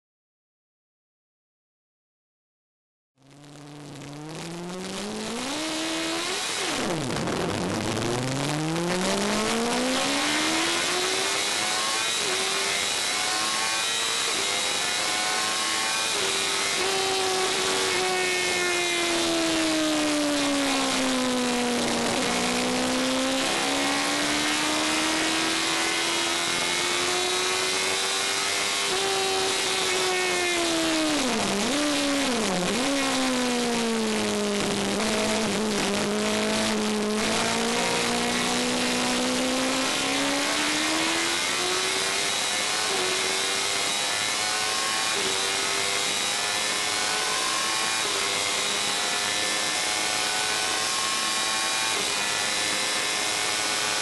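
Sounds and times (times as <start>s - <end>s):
racing car engine revving: 3.2s - 54.0s.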